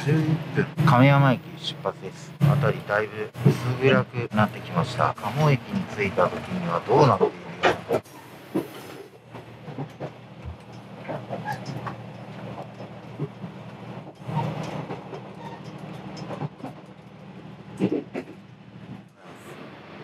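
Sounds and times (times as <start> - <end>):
wheels clicking over rails: 0.0 - 19.3
diesel railcar engine hum: 0.0 - 20.0.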